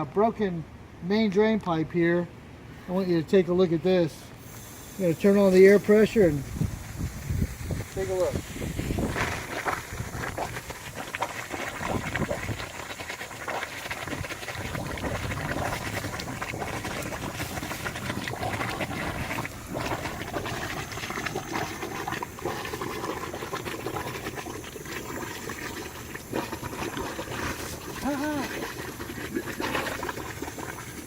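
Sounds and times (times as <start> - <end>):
air bubbling through water: 5.8 - 31.0.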